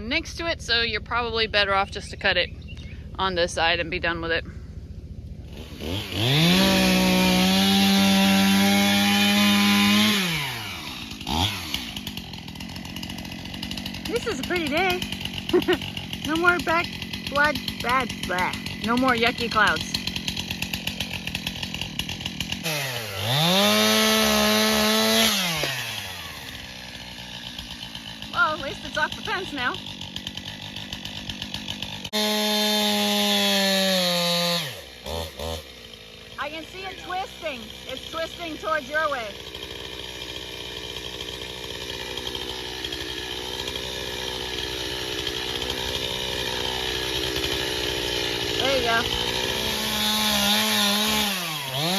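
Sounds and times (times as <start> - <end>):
chainsaw idling and revving: 0.0 - 51.9.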